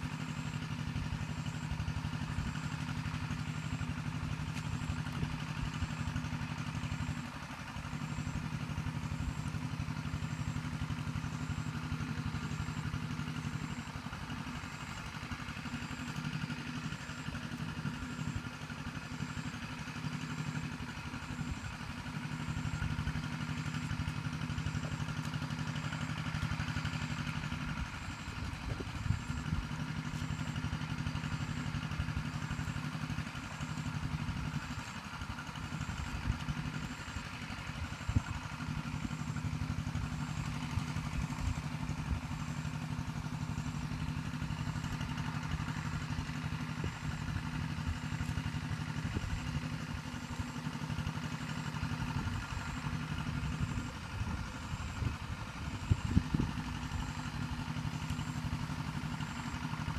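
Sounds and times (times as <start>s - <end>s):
small engine droning: 0.0s - 59.9s.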